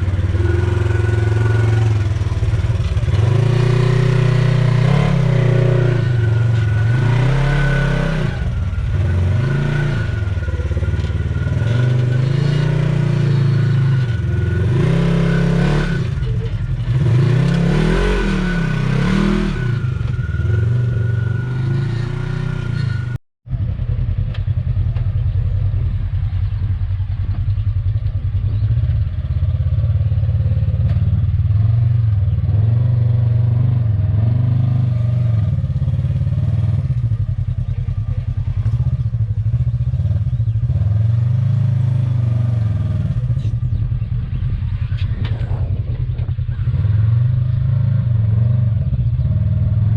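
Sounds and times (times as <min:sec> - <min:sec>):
utility vehicle engine revving: 0:00.0 - 0:49.9.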